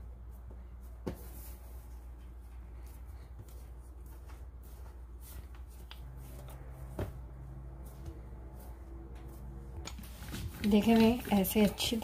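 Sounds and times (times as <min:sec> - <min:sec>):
hands patting dough: 0:00.1 - 0:12.0.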